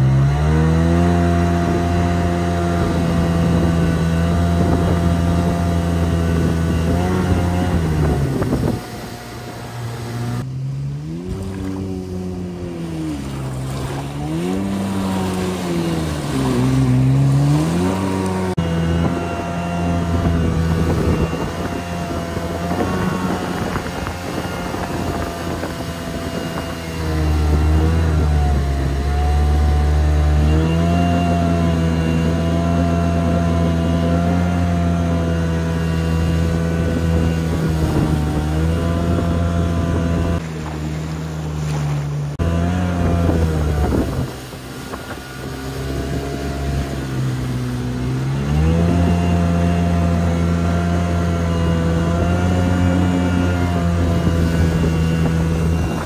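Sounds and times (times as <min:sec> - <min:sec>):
jet boat engine running: 0:00.0 - 0:56.0.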